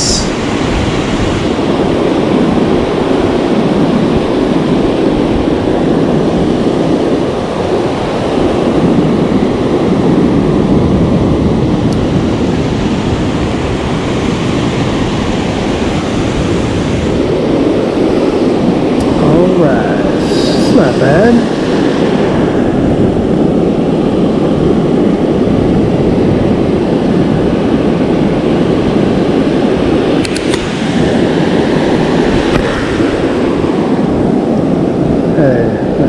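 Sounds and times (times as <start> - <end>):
ocean surf breaking: 0.0 - 36.0
wind rumbling on microphone: 0.0 - 36.0.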